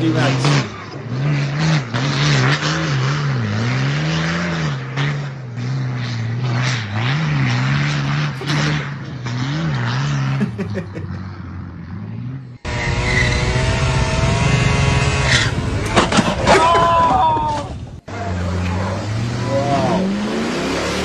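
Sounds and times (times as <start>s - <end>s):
diesel truck engine revving: 0.0s - 17.1s, 17.7s - 21.0s.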